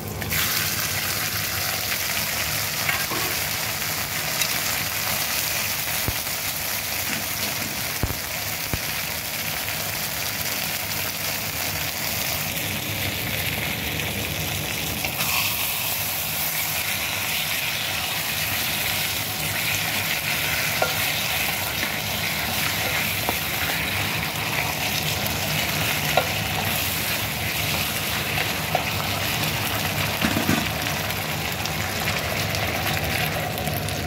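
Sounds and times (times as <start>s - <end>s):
chicken sizzling in a pot: 0.0s - 34.0s.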